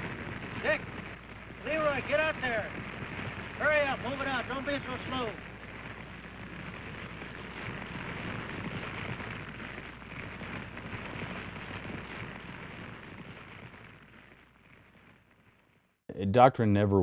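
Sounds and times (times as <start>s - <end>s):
low steady hum: 0.0s - 14.5s
brush fire crackling: 0.0s - 16.0s.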